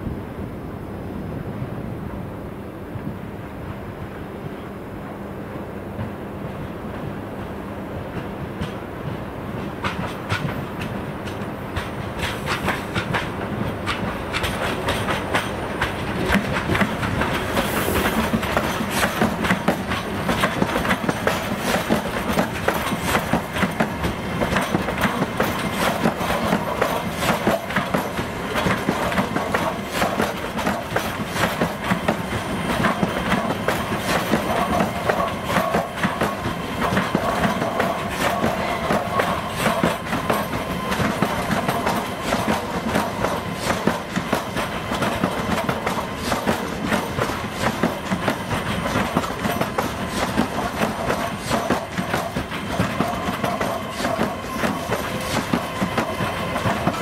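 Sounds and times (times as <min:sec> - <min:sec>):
train running gear rumble: 0:01.4 - 0:57.0
train wheels clicking over rail joints: 0:06.0 - 0:57.0.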